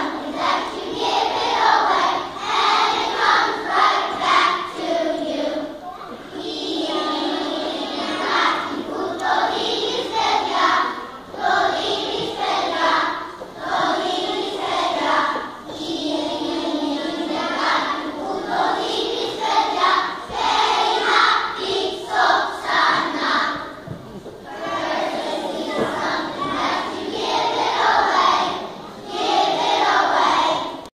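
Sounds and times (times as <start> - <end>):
children's choir singing: 0.0 - 30.9.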